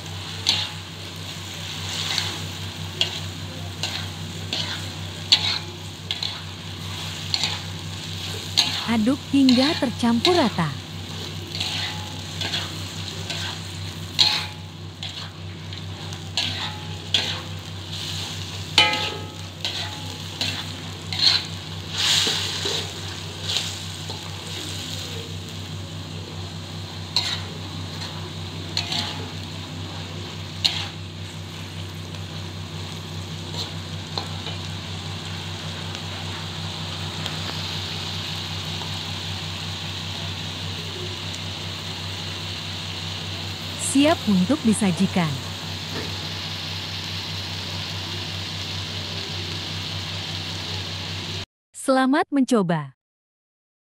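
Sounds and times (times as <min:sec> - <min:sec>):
vegetables sizzling in a frying pan: 0:00.0 - 0:51.4.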